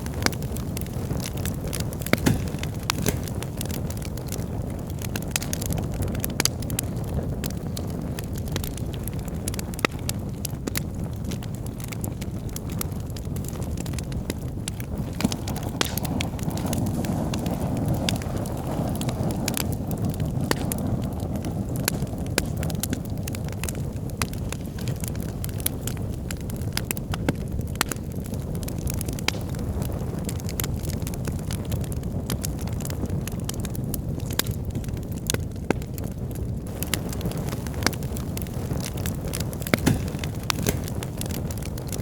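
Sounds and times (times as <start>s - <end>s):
fire crackling and popping: 0.0s - 42.0s.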